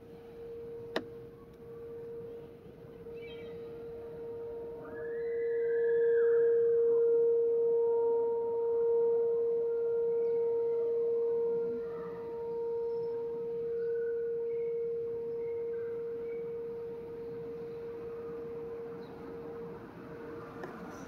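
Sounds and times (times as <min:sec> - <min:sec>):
warning siren wailing: 0:00.0 - 0:21.0.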